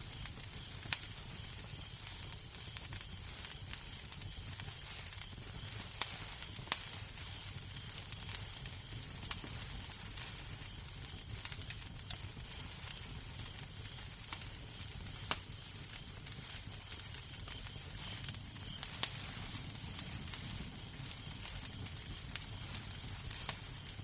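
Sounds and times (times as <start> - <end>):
fire crackling: 0.0 - 24.0
fire popping: 0.0 - 24.0.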